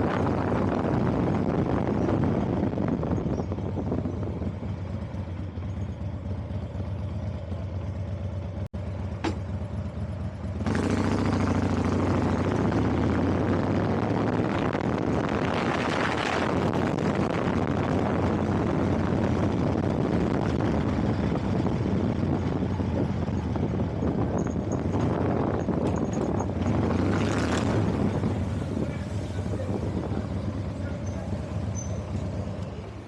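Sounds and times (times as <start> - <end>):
low engine hum: 0.0 - 33.0
road noise: 0.0 - 33.0.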